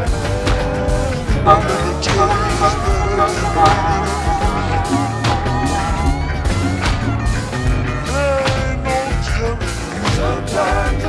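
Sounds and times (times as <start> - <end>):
music with drum beat: 0.0 - 11.0.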